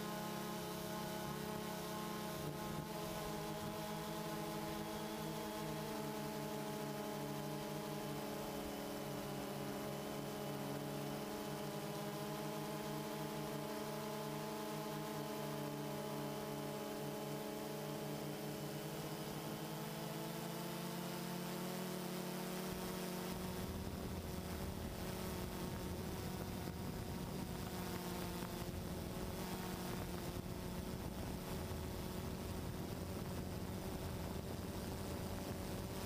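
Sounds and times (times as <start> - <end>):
drone propellers buzzing: 0.1 - 36.0.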